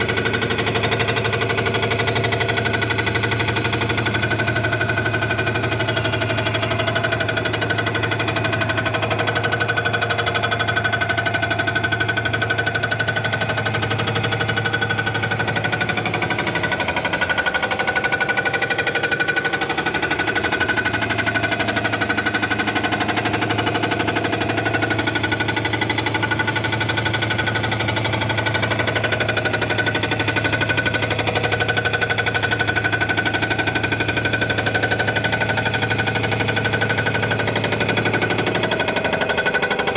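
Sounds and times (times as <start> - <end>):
machine running with pulse and hum: 0.0 - 39.9.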